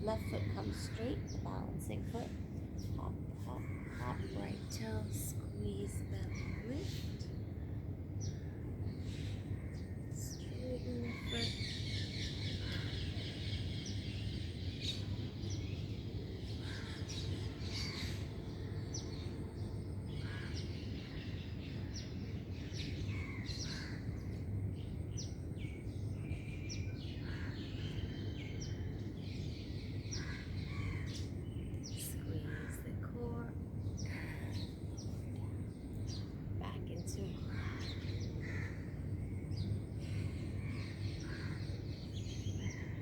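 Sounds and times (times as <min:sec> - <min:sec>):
birds chirping: 0:00.0 - 0:43.0
low background hum: 0:00.0 - 0:43.0.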